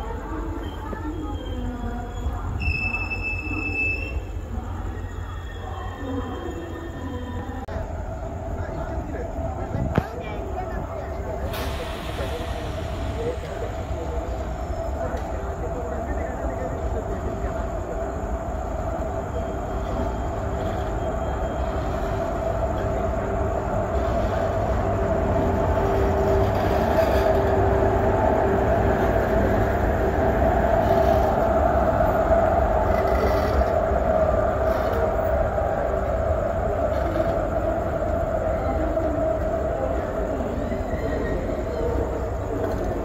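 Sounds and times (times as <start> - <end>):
train rumbling on rails: 0.0 - 43.0
train whine: 0.0 - 43.0.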